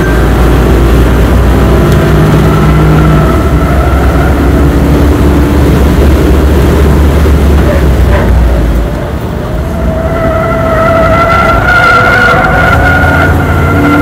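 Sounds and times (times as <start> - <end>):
car engine accelerating hard: 0.0 - 14.0
wind noise: 0.0 - 14.0.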